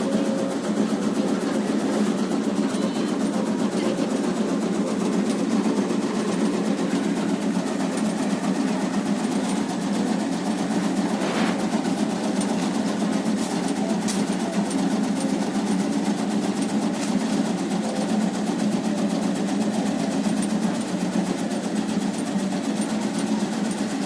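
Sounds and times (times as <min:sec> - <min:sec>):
cutting machine chattering: 0:00.0 - 0:24.0.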